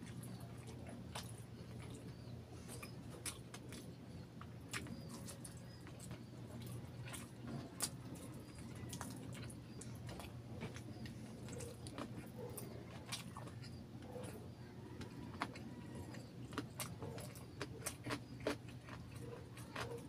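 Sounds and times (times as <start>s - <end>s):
low steady hum: 0.0s - 20.0s
wet chewing and lip smacking: 0.0s - 20.0s.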